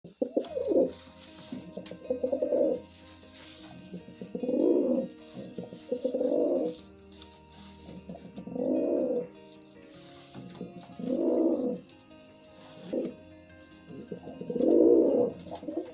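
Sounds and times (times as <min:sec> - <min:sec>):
pigeon cooing: 0:00.1 - 0:06.8, 0:07.5 - 0:09.4, 0:10.0 - 0:11.9, 0:12.6 - 0:13.2, 0:13.9 - 0:15.9.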